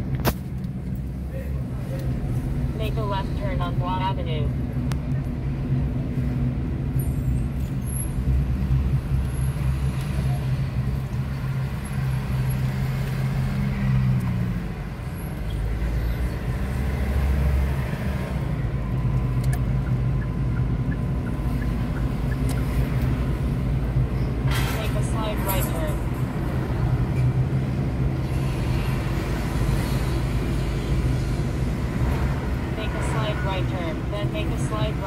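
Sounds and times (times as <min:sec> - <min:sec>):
bus passing: 0:00.0 - 0:35.0
car engine and road hum: 0:00.0 - 0:35.0.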